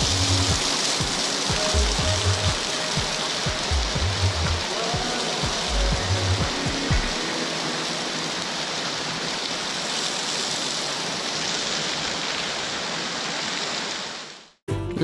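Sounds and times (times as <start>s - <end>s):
waterfall rushing: 0.0s - 14.5s.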